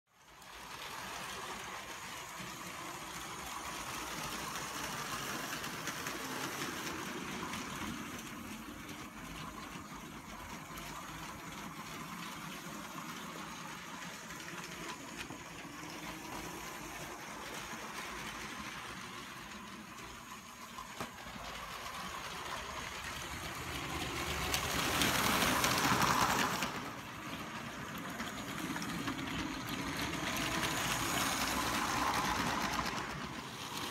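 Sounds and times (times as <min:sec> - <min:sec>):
toy train motor whir: 0:00.2 - 0:33.9
wheel rattle on plastic track: 0:00.2 - 0:33.9.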